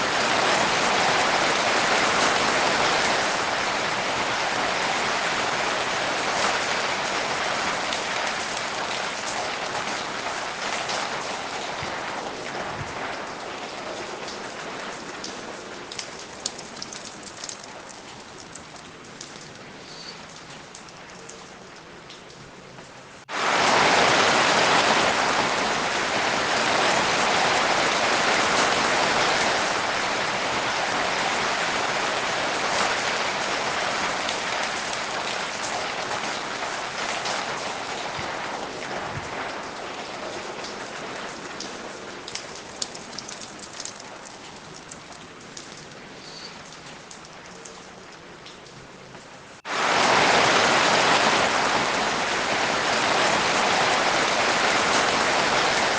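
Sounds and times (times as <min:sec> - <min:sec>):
rain falling steadily: 0:00.0 - 0:55.9.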